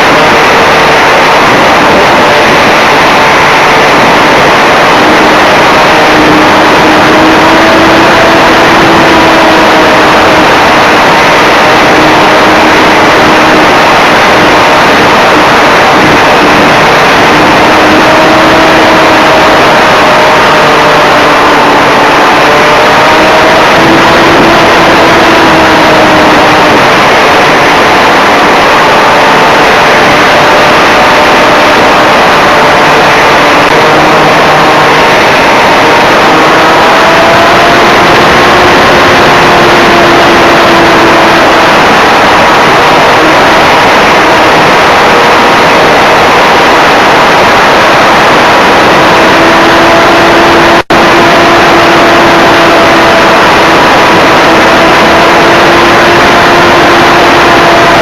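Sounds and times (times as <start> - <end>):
propeller hum: 0.0 - 58.0
wind rush: 0.0 - 58.0.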